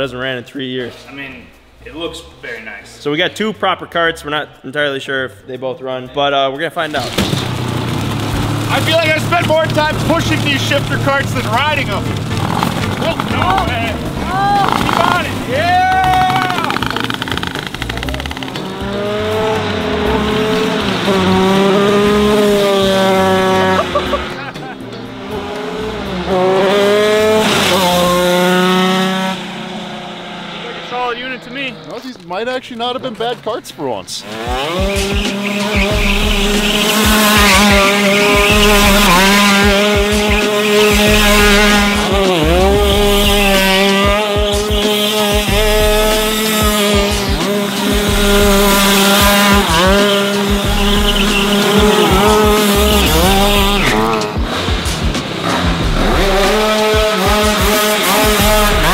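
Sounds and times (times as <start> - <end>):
tyres skidding on concrete: 6.8 - 58.9
two-stroke kart engine revving: 6.9 - 32.1, 34.2 - 58.9.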